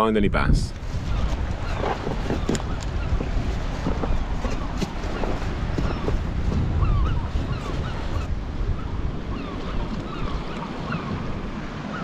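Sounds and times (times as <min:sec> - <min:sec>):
wind on microphone: 0:00.0 - 0:12.0
sea washing on rocky shore: 0:00.7 - 0:12.0.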